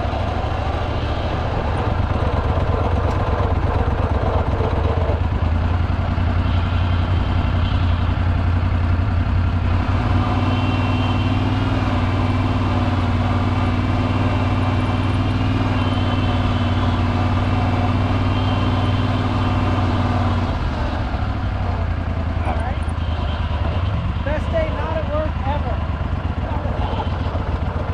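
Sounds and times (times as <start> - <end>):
engine humming: 0.0 - 27.9.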